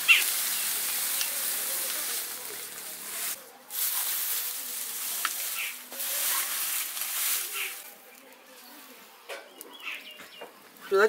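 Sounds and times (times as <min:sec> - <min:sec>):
straw crackling as it burns: 0:00.0 - 0:11.0.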